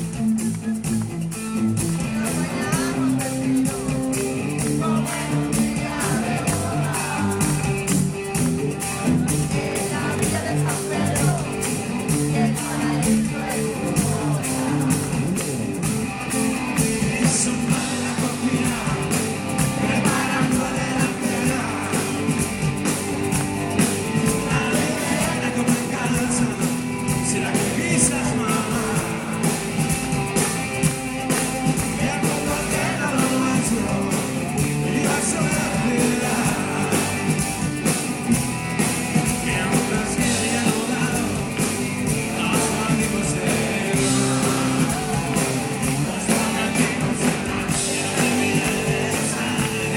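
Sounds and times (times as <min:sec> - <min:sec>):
rock band playing live: 0:00.0 - 0:49.9
person singing: 0:01.9 - 0:08.0, 0:08.8 - 0:15.7, 0:16.8 - 0:30.0, 0:31.3 - 0:37.6, 0:39.2 - 0:49.9.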